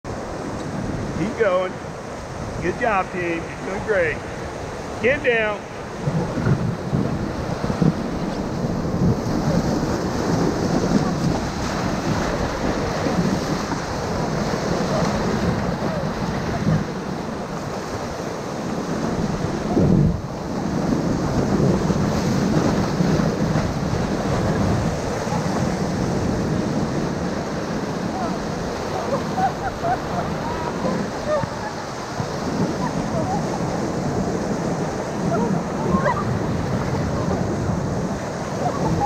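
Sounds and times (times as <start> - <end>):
whitewater rapids roaring: 0.1 - 39.0.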